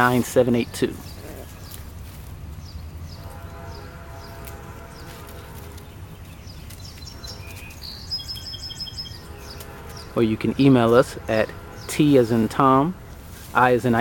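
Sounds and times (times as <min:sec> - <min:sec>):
low steady rumble: 0:00.0 - 0:14.0
small birds chirping: 0:00.0 - 0:14.0.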